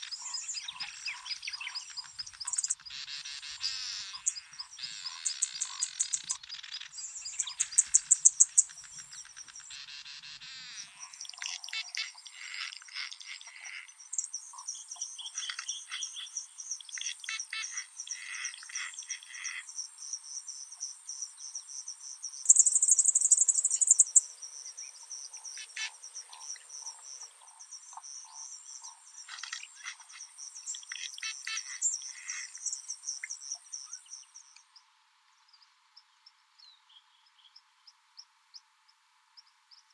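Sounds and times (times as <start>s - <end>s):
birds twittering and chattering: 0.0s - 19.8s, 21.4s - 38.7s.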